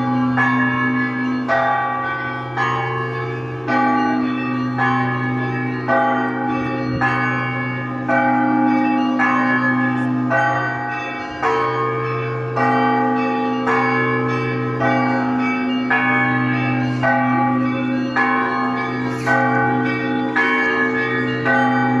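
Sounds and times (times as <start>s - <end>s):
smaller bells struck together: 0.0s - 22.0s.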